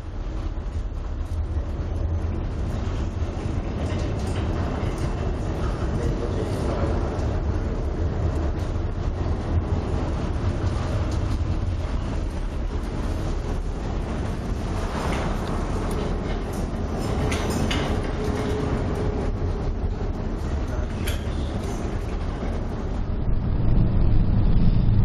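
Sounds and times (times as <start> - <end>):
ship engine rumble: 0.0 - 25.0
wind: 0.0 - 25.0.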